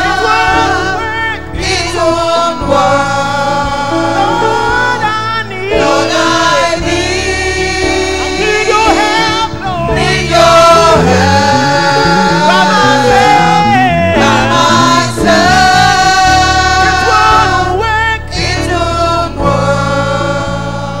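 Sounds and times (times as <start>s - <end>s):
choir singing gospel song: 0.0s - 21.0s
keyboard accompaniment: 0.0s - 21.0s.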